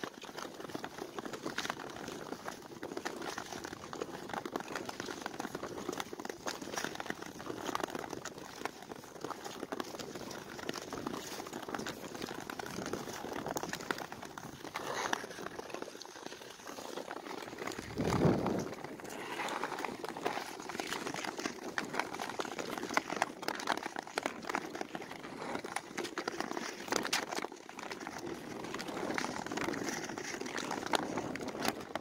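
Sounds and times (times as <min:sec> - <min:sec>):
ice skates scraping on ice: 0:00.1 - 0:32.0.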